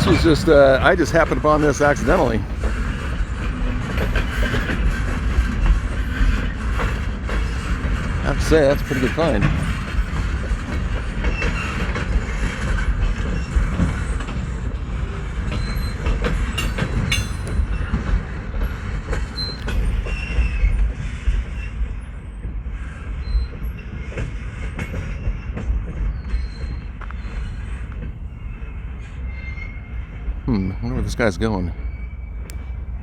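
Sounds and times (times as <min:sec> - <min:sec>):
freight train wheels rumbling: 0:00.0 - 0:33.0
high wheel squeals: 0:04.3 - 0:10.2, 0:11.0 - 0:14.6, 0:15.3 - 0:33.0.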